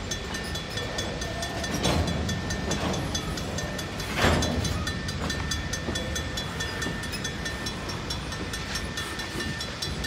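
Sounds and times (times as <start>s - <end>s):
crossing bell ringing: 0.0s - 10.0s
freight cars rumbling: 0.0s - 10.0s.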